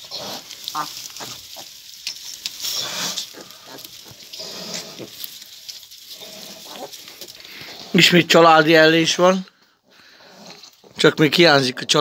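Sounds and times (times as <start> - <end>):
piglets and sow grunting: 0.0 - 8.4, 10.0 - 12.0.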